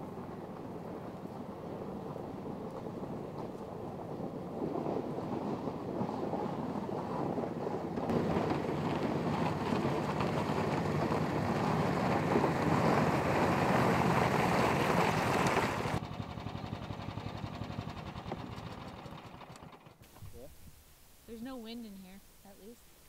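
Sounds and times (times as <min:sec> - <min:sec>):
power sled engine running: 0:00.0 - 0:20.2.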